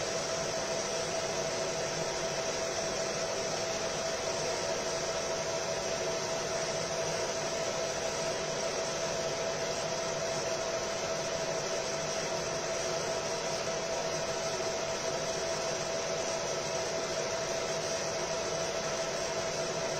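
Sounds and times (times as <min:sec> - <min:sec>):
laser marking machine whirring: 0:00.0 - 0:19.9.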